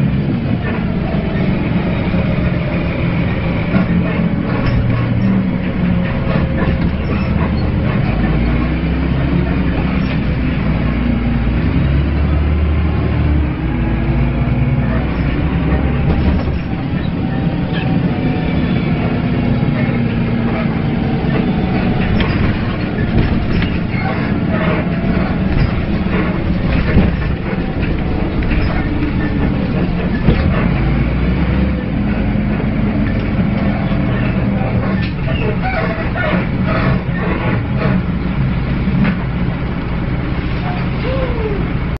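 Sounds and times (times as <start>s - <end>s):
bus engine groaning: 0.0s - 41.9s
bodywork clicks and rattles: 0.1s - 11.2s, 14.6s - 40.9s.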